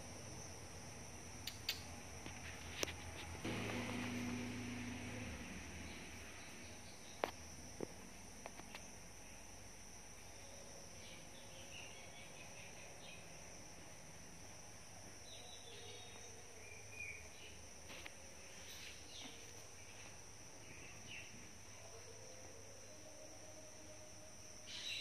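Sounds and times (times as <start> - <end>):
faint high-pitched hiss: 0.0 - 25.0.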